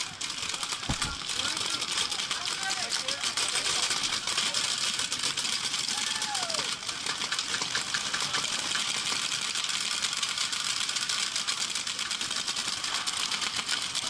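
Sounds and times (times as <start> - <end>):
paintball markers firing rapidly: 0.0 - 5.9, 6.7 - 14.0.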